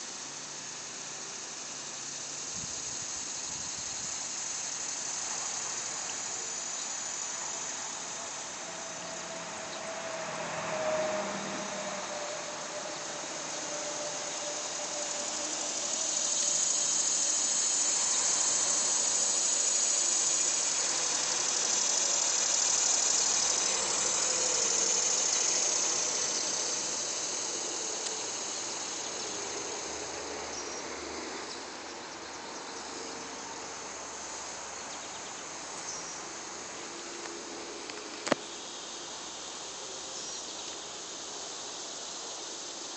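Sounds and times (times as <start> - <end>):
cicadas buzzing: 0.0 - 42.9.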